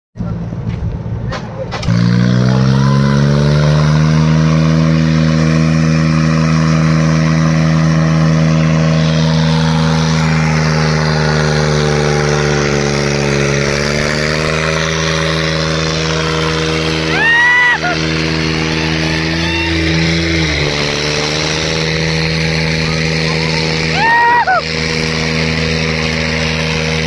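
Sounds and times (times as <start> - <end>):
tractor diesel engine revving: 0.2 - 27.0.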